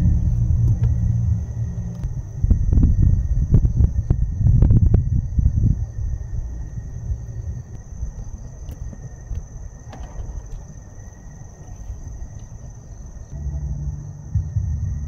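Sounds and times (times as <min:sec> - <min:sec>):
low rumble: 0:00.0 - 0:15.0
night insects chirring: 0:00.0 - 0:15.0.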